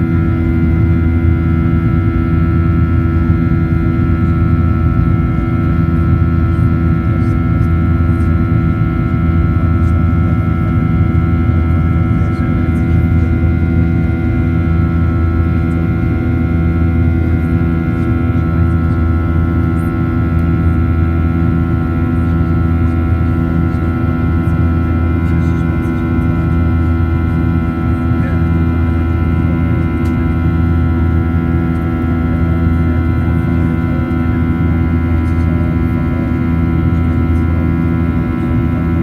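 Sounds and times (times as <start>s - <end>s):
airplane cabin drone: 0.0s - 39.0s.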